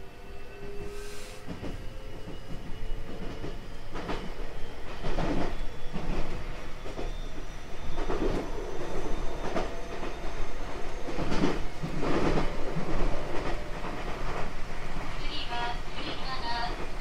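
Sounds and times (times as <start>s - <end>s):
train running rumble: 1.0s - 17.0s.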